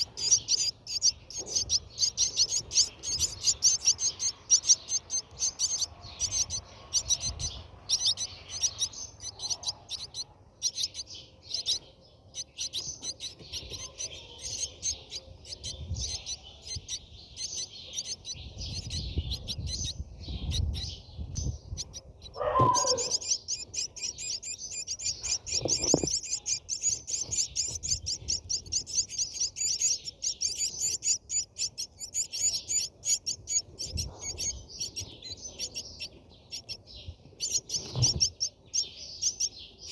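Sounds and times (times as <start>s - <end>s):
starlings chirping: 0.0s - 39.9s.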